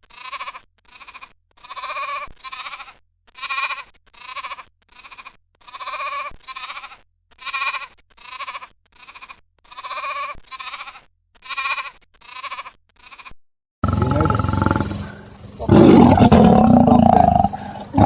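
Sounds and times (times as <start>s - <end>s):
animal bleating: 0.0s - 18.0s.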